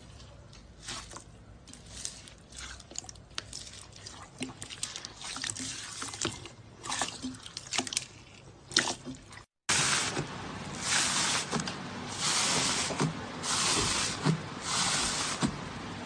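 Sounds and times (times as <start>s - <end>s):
slime squelching by hand: 0.0s - 15.5s.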